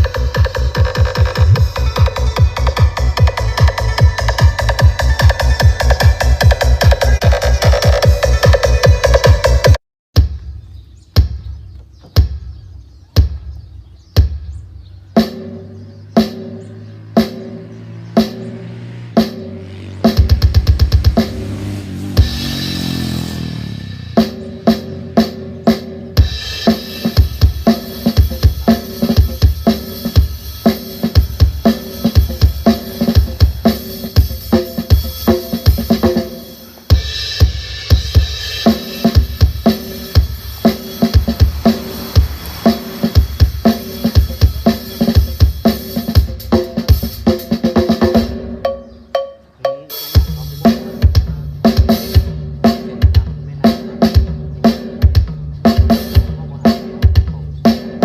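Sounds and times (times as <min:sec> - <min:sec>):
drum-heavy music through subwoofer: 0:00.0 - 0:58.0.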